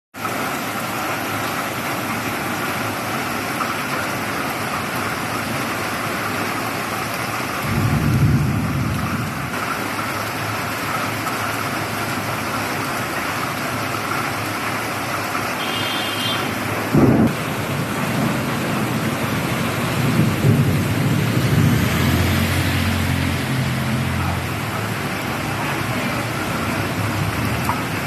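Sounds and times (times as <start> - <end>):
heavy rain on flooded street: 0.2 - 28.0.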